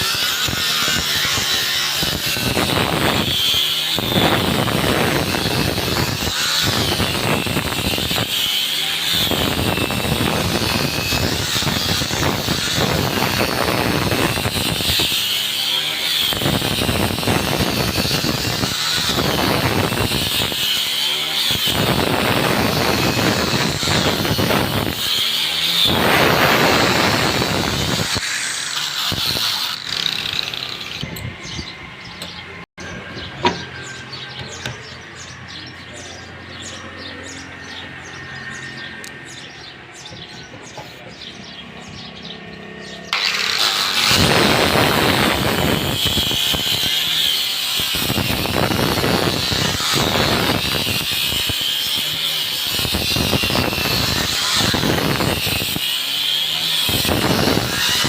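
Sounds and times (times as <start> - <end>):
power tool whining under load: 0.0 - 35.3, 42.8 - 58.0.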